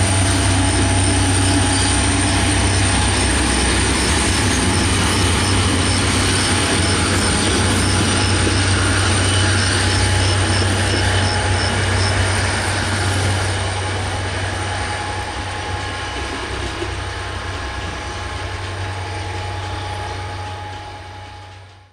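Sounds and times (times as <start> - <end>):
low drone: 0.0 - 21.9
train coaches rolling past: 0.0 - 21.9.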